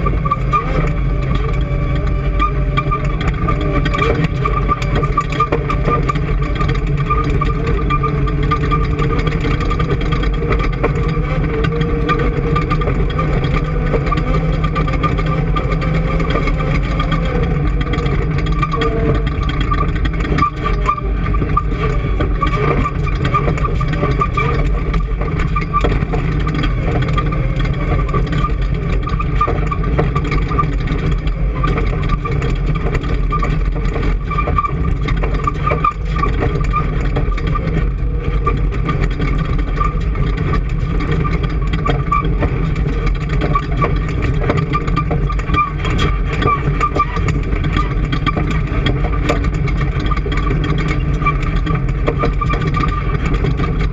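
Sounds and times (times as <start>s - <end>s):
engine humming and whining: 0.0s - 53.9s.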